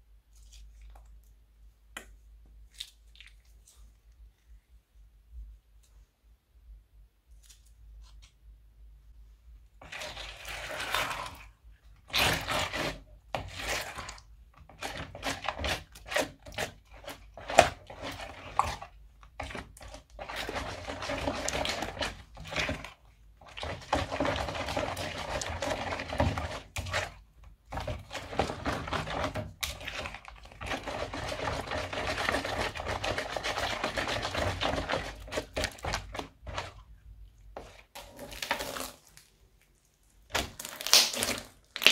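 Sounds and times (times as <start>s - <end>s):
spatula stirring thick slime: 0.0s - 41.9s.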